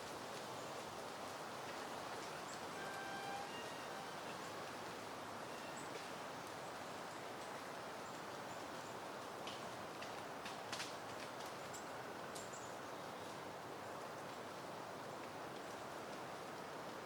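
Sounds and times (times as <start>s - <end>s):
wind rustling through foliage: 0.0s - 17.0s.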